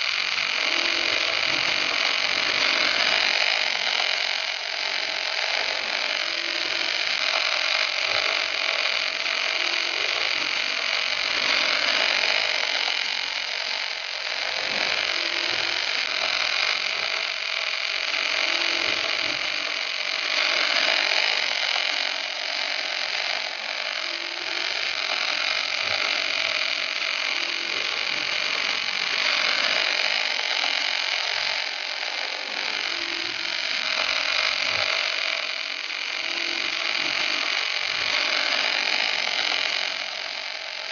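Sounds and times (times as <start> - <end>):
welding arc hissing: 0.0 - 40.9.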